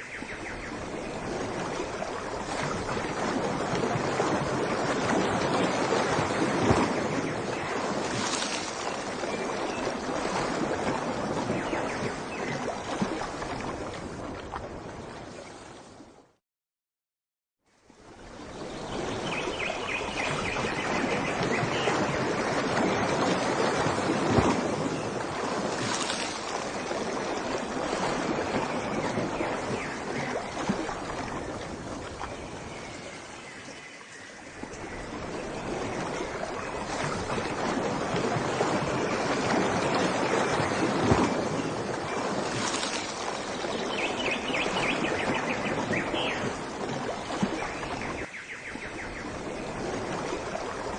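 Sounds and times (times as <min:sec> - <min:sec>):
ocean waves washing ashore: 0:00.0 - 0:16.3, 0:17.7 - 0:50.9.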